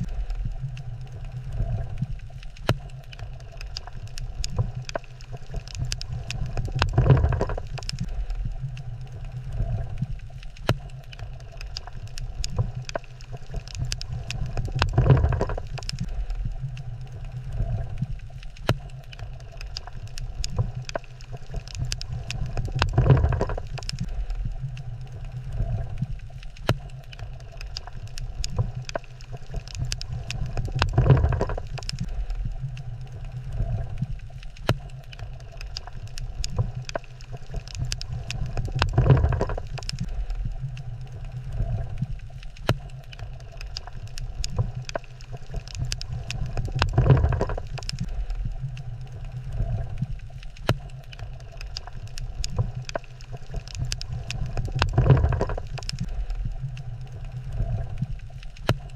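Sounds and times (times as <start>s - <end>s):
low underwater rumble: 0.0s - 58.9s
sharp clicks and crackles: 0.0s - 58.9s.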